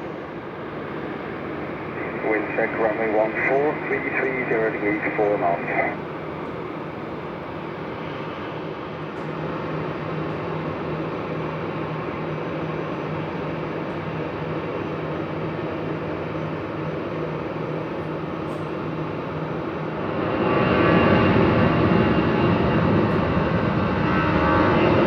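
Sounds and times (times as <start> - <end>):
jet engines on approach: 0.0 - 25.0.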